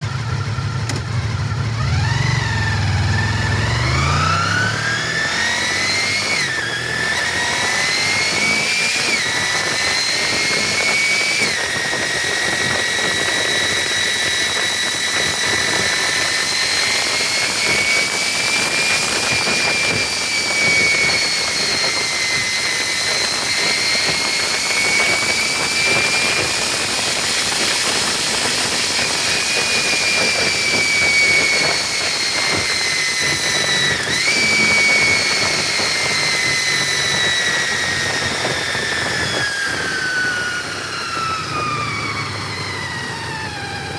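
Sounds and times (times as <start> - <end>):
motorcycle engine whine: 0.0 - 43.9
wind noise: 2.1 - 43.9.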